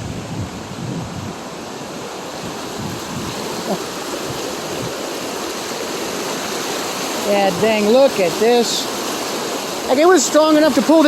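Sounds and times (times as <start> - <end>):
wind buffeting microphone: 0.0 - 9.5
creek water rushing: 0.0 - 11.0.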